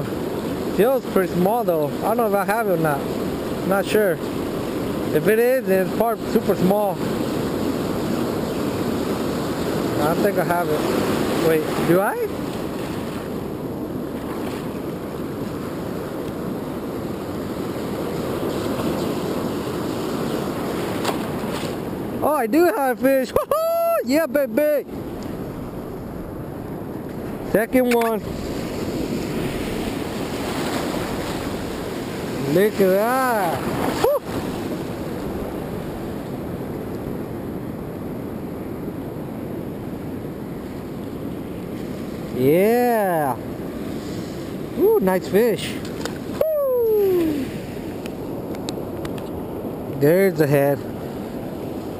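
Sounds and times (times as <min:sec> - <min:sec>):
ocean surf washing: 0:00.0 - 0:51.9.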